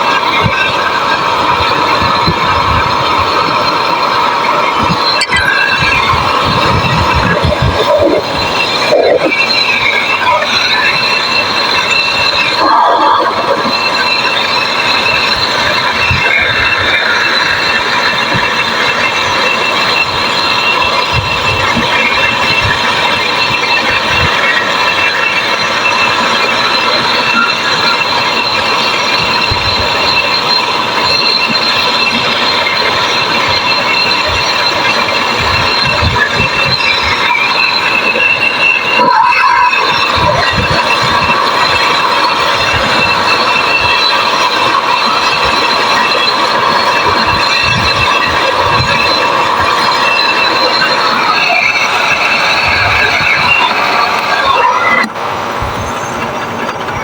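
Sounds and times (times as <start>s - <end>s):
thin high whistling tones: 0.1s - 57.0s.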